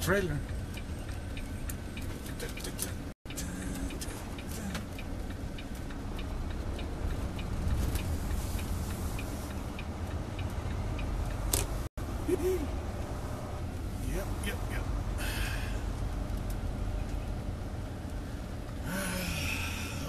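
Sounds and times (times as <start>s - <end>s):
turn signal ticking: 0.0s - 20.0s.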